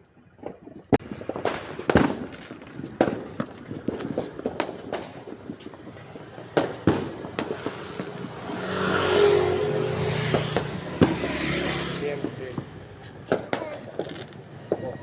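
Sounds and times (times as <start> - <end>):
firework bangs: 0.4 - 15.0
motor vehicle engine passing: 1.0 - 15.0.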